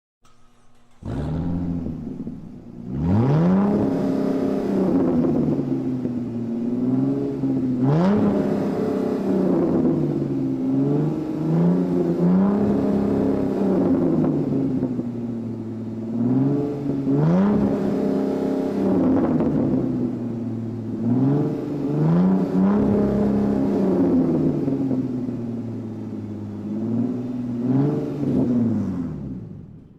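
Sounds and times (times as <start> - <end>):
car engine starting and revving: 0.2 - 29.9.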